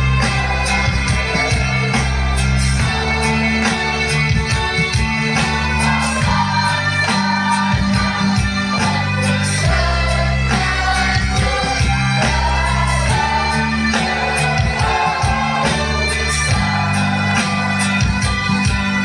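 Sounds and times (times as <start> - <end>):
children's choir singing: 0.0 - 18.8
musical accompaniment with beat: 0.0 - 19.0.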